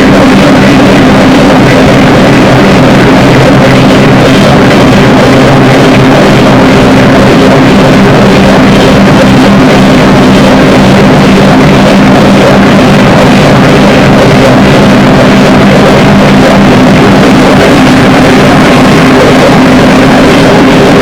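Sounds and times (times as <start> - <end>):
distorted noise: 0.0 - 21.0
low held drone tones: 0.0 - 21.0.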